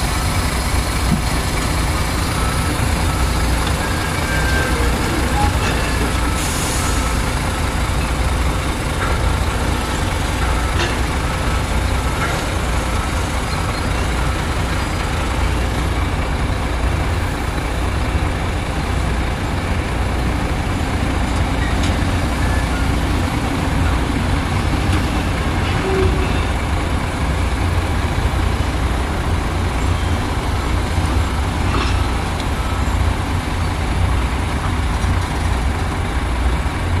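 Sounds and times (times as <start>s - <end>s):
heavy diesel machinery rumbling: 0.0s - 37.0s.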